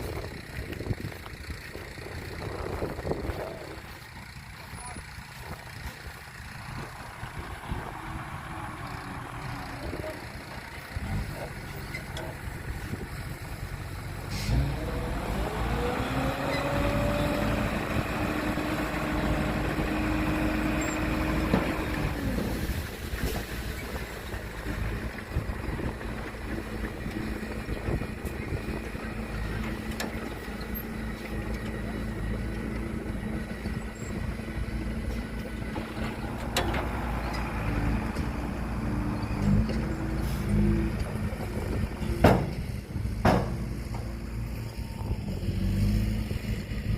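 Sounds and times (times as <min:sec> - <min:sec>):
heavy diesel engine revving: 0:06.4 - 0:22.8, 0:24.4 - 0:46.9.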